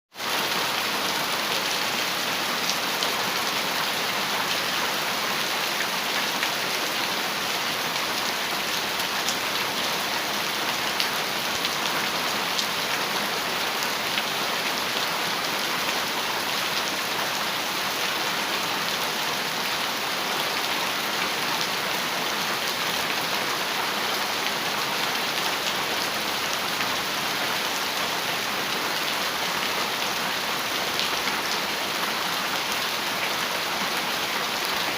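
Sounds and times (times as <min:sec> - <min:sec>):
heavy rain on metal roof: 0:00.1 - 0:34.9.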